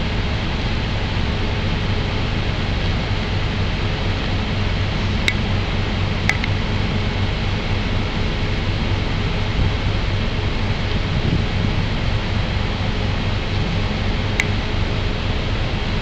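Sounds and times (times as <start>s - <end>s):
ferry machinery drone: 0.0s - 16.0s.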